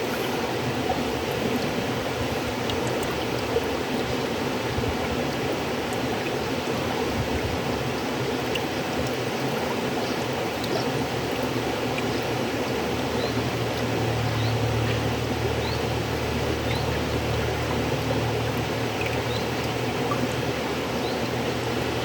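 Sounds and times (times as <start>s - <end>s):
faint water splashes: 0.0s - 22.0s
river water flowing over stones: 0.0s - 22.0s.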